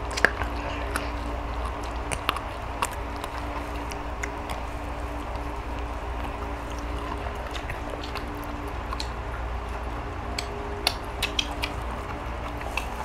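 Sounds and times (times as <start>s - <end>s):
mouth clicks and smacks: 0.0s - 13.0s
people chewing: 0.0s - 13.0s
steady low hum: 0.0s - 13.0s.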